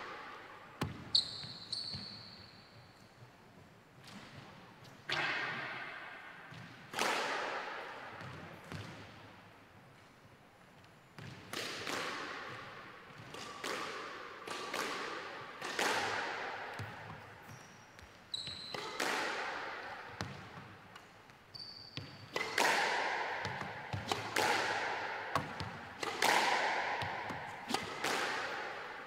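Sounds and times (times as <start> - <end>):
squash ball cracks in echoing court: 0.0 - 1.5, 4.0 - 9.3, 11.2 - 29.0.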